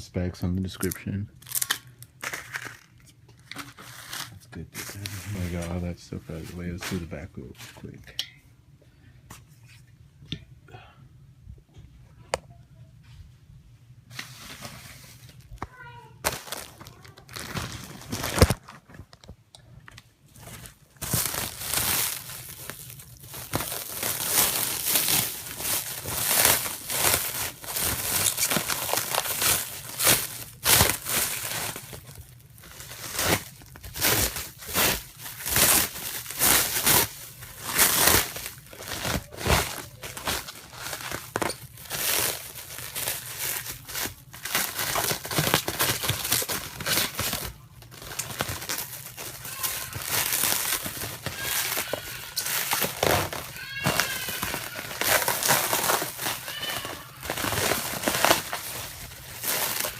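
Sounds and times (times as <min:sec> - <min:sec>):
plastic packaging crinkling and tearing: 0:00.7 - 0:07.9, 0:14.1 - 0:19.3, 0:20.3 - 0:59.9.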